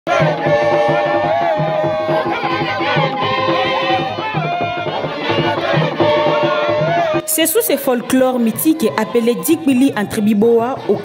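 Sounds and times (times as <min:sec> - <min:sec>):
group singing: 0:00.1 - 0:09.4
drums beating: 0:00.1 - 0:11.0.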